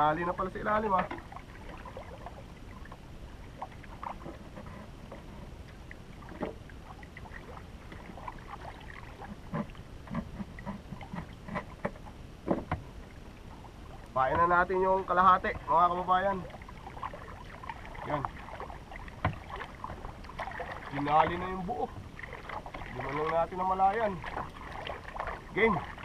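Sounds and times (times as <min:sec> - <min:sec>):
water lapping against hull: 0:00.0 - 0:26.0
small splashes and knocks: 0:00.8 - 0:14.7, 0:15.4 - 0:26.0.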